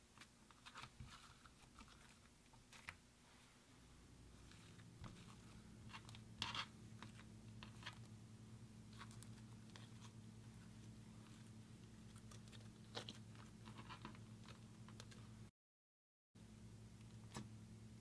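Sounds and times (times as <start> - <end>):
faint low hum: 0.0 - 15.5, 16.4 - 18.0.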